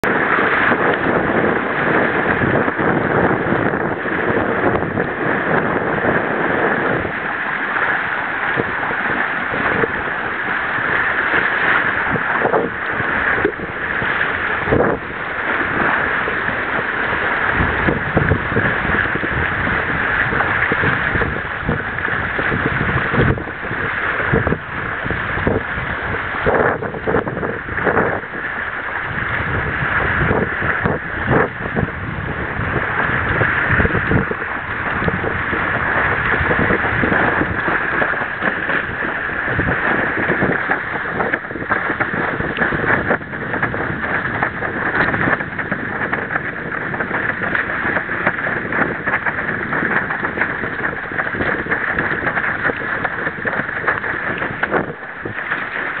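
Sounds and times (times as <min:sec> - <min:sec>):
board slapping water: 0:00.0 - 0:56.0
water rushing and splashing: 0:00.0 - 0:56.0
wind buffeting microphone: 0:00.0 - 0:56.0.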